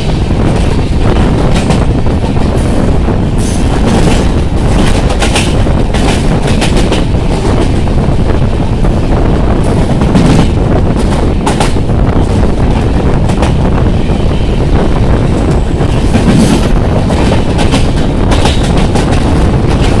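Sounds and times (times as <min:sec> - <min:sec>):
train wheels on rail and wind rush: 0:00.0 - 0:20.0.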